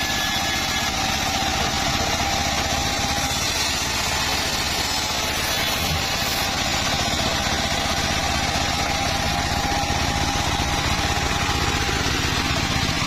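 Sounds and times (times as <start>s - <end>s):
circular saw running: 0.0s - 13.0s.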